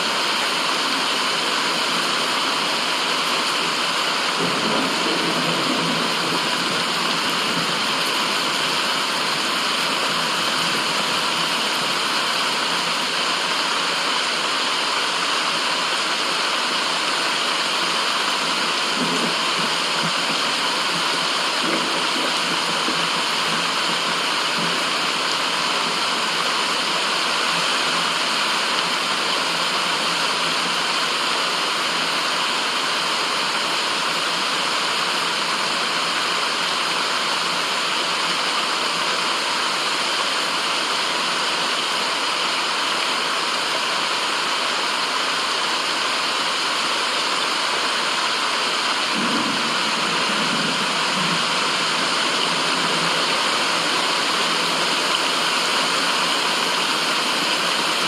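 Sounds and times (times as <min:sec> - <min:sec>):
rushing white noise: 0:00.0 - 0:58.0.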